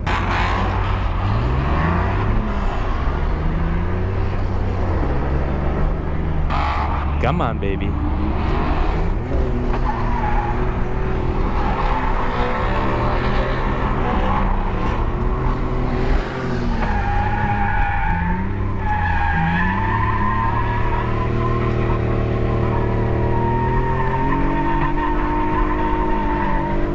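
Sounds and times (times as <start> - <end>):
car engine revving: 0.0 - 26.9
tyres skidding and squealing: 0.0 - 26.9.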